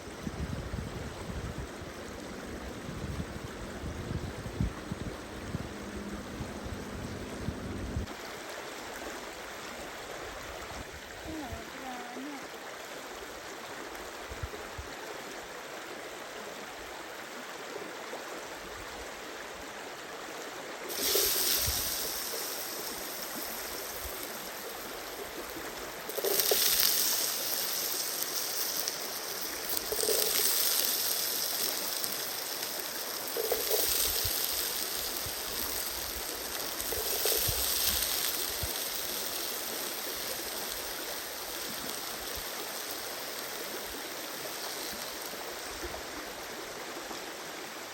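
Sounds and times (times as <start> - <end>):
stream running: 0.0 - 47.9.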